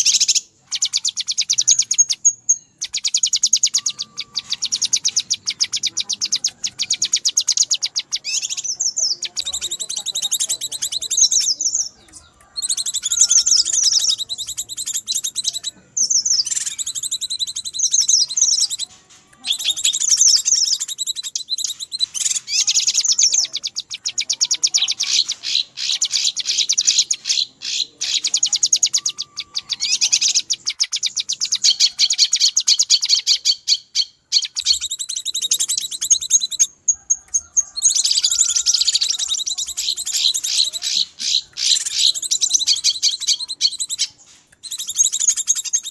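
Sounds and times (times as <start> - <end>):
bird chirps and trills: 0.0 - 45.9.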